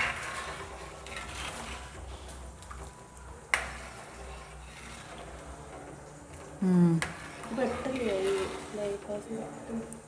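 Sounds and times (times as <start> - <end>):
ladle stirring and scraping pot: 0.0 - 10.0.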